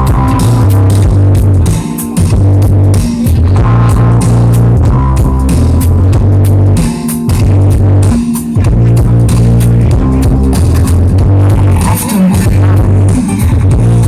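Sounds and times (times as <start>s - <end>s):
electronic music with heavy bass: 0.0s - 14.0s.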